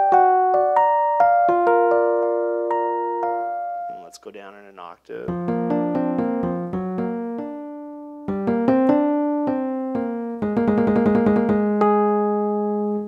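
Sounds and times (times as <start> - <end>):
electric piano chords: 0.0 - 4.1, 5.3 - 13.0.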